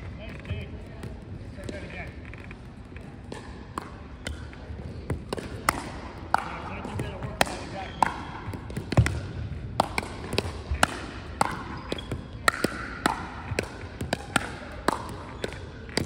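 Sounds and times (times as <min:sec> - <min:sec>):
ball bouncing on wooden floor: 0:00.2 - 0:16.0
paddles striking plastic ball: 0:00.4 - 0:16.0.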